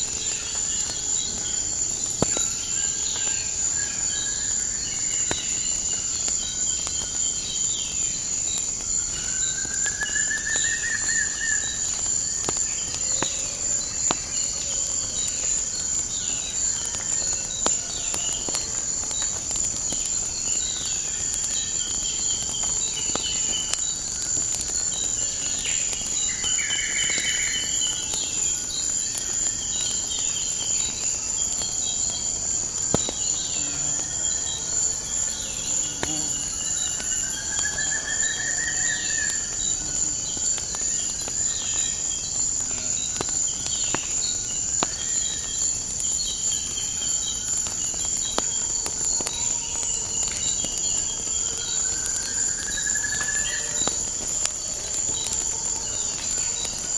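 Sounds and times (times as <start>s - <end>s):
insect chorus: 0.0s - 56.9s
wood fire crackling: 0.0s - 56.9s.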